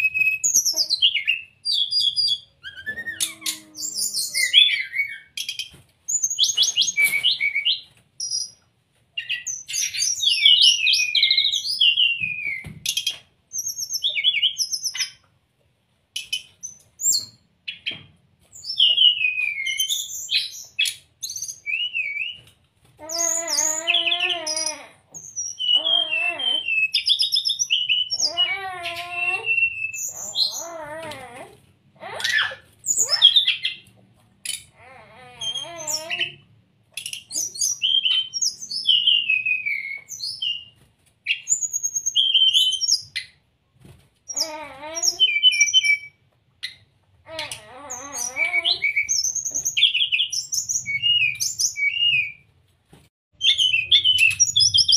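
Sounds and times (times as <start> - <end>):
bird chirps trills and whistles: 0.0 - 8.6, 9.2 - 15.2, 16.2 - 31.4, 32.2 - 33.8, 34.4 - 36.4, 37.0 - 43.4, 44.3 - 52.5, 53.4 - 54.9.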